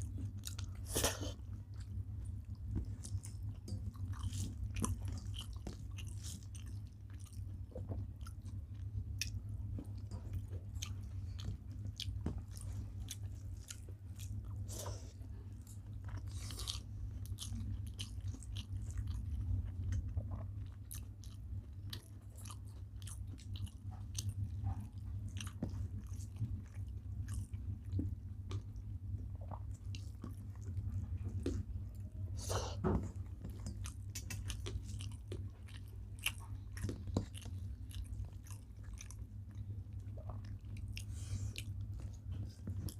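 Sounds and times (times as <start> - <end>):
people chewing food: 0.0 - 42.9
steady low hum: 0.0 - 42.9.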